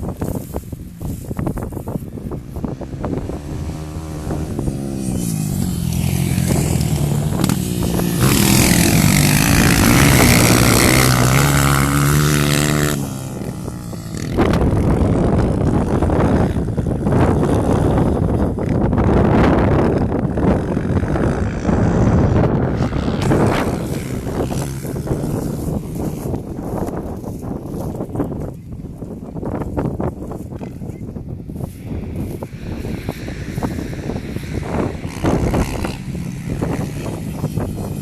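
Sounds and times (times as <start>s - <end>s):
wind noise on microphone: 0.0s - 38.0s
motorcycle engine revving: 1.0s - 28.5s, 31.8s - 38.0s.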